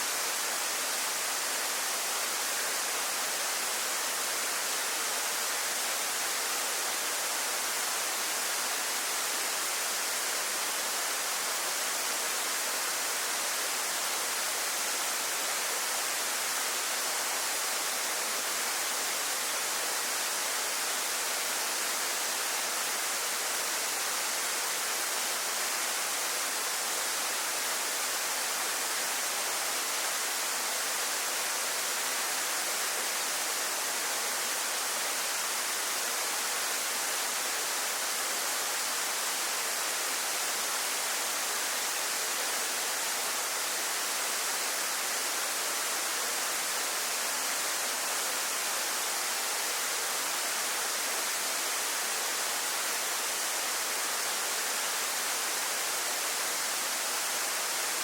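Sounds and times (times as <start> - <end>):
waterfall hissing: 0.0 - 58.0.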